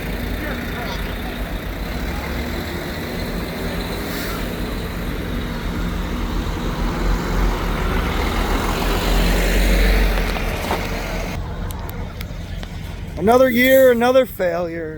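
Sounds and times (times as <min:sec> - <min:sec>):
diesel bus engine running: 0:00.0 - 0:14.9.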